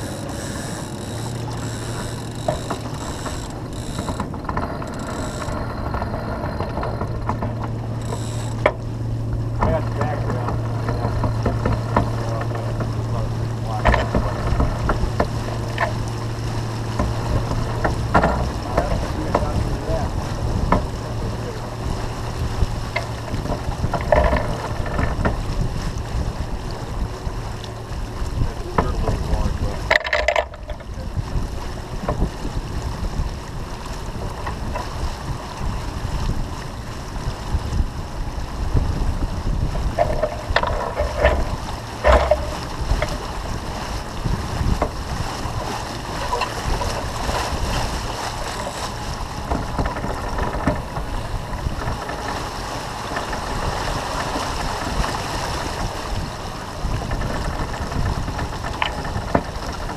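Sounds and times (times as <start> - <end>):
water rushing along hull: 0.0 - 59.9
wind buffeting microphone: 0.0 - 59.9.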